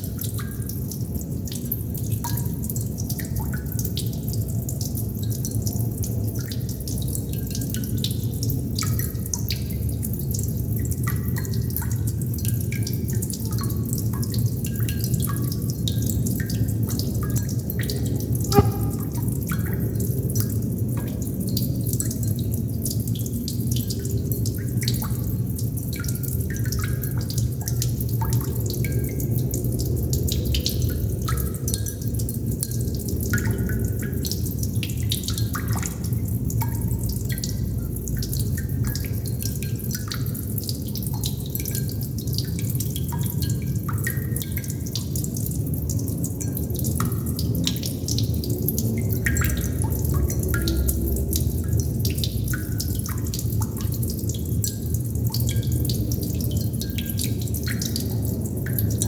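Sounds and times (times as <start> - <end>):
water droplets dripping: 0.0 - 59.0.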